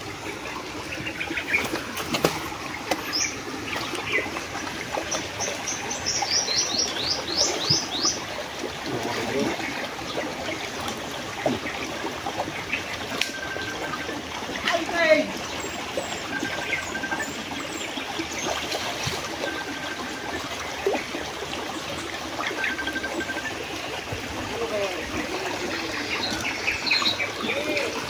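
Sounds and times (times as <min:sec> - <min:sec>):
creek water trickling and splashing: 0:00.0 - 0:28.0.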